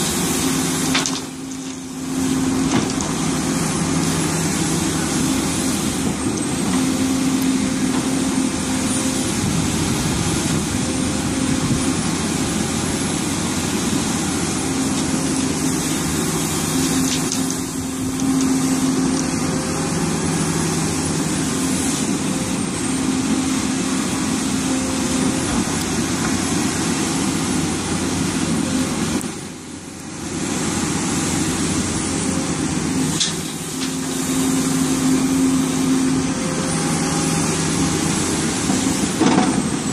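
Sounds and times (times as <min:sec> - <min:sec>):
excavator diesel engine working: 0:00.0 - 0:39.9.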